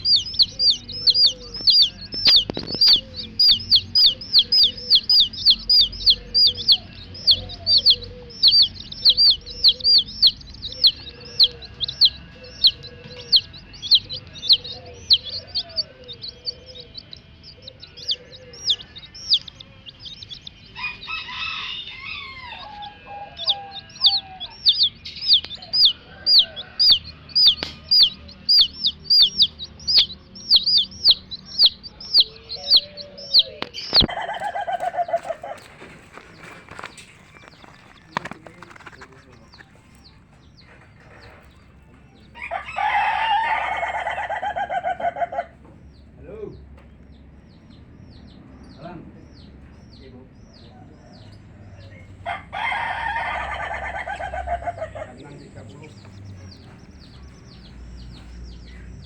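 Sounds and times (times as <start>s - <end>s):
hen clucking: 0.0s - 45.8s, 50.6s - 59.0s
baby chicks peeping: 0.0s - 59.0s.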